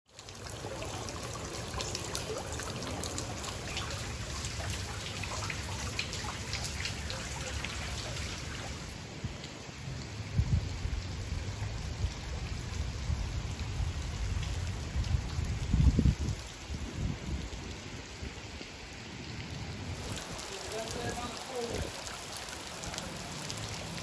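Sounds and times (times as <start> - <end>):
rain falling on water: 0.0 - 24.0.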